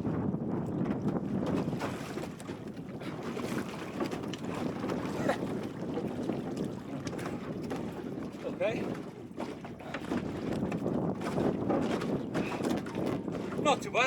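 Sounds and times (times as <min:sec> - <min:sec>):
strong wind buffeting microphone: 0:00.0 - 0:14.0
water splashing and sloshing: 0:00.0 - 0:14.0.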